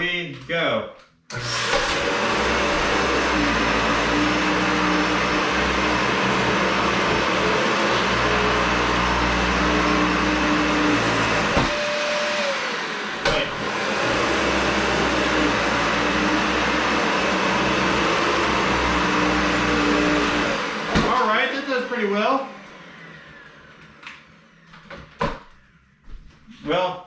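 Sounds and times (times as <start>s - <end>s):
vacuum cleaner running: 1.3s - 25.9s.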